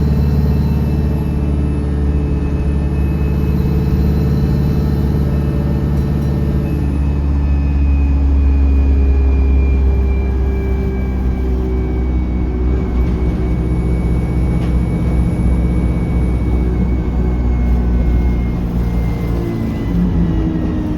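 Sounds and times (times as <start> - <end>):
bus engine rumbling: 0.0 - 20.9.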